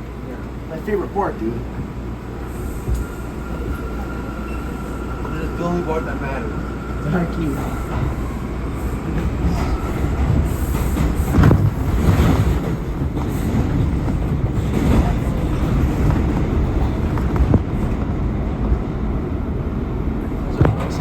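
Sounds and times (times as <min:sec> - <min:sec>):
subway wheels rumbling on rails: 0:00.0 - 0:21.0.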